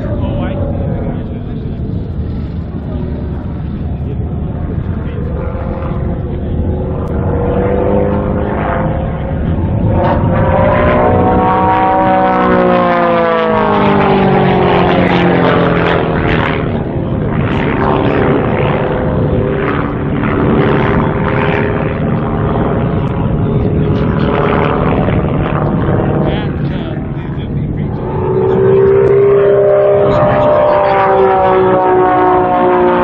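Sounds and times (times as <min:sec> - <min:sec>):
propeller plane engine: 0:00.0 - 0:33.0.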